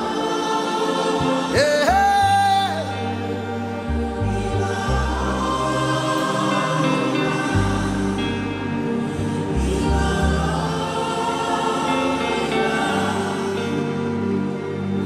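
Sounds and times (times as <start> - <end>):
choir singing: 0.0 - 15.0
band with bass and keyboard: 1.2 - 15.0.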